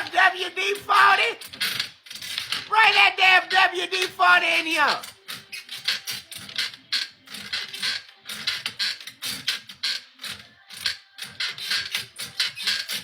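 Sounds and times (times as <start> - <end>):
bed creaking and squeaking: 0.0 - 13.0.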